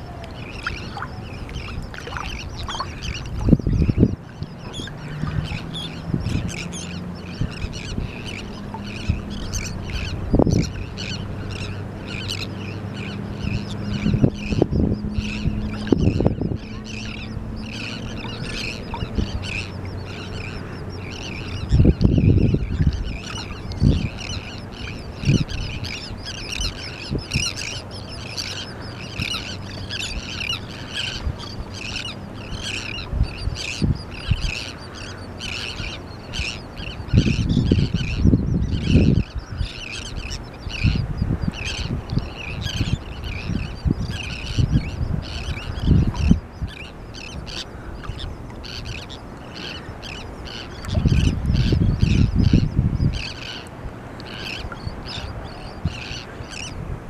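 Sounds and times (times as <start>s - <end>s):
seabirds squawking: 0.0s - 56.8s.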